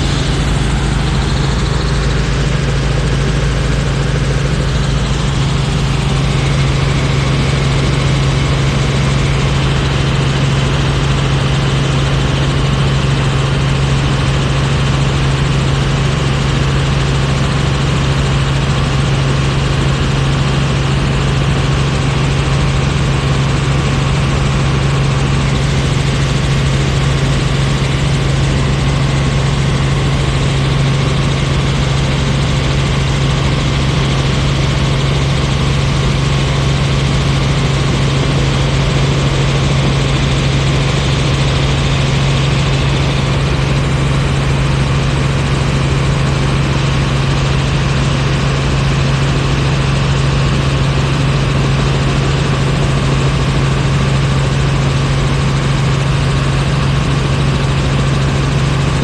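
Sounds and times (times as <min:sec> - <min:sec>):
helicopter cabin drone: 0:00.0 - 0:59.0.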